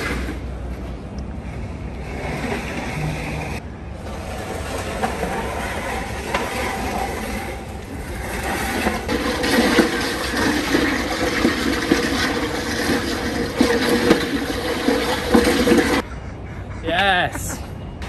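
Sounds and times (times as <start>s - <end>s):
weight sled scraping on stone: 0.0s - 16.0s.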